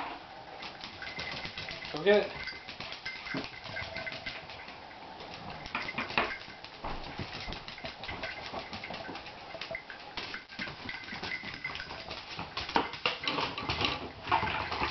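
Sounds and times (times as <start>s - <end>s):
dog claws clicking on tiles: 0.6s - 14.9s.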